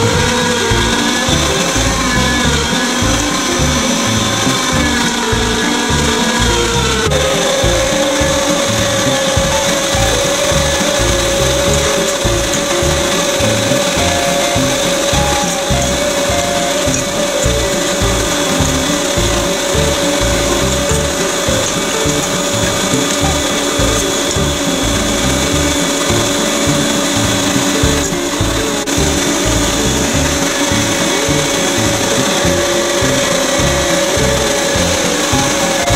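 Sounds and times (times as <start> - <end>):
background music with a beat: 0.0 - 35.9
meat grinder motor whining: 0.0 - 35.9.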